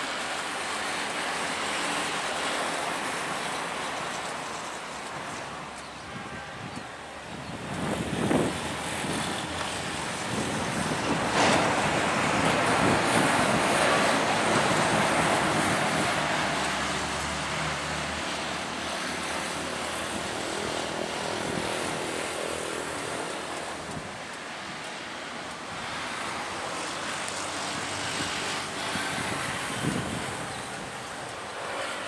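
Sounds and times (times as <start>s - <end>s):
passenger train rumbling: 0.0s - 32.0s.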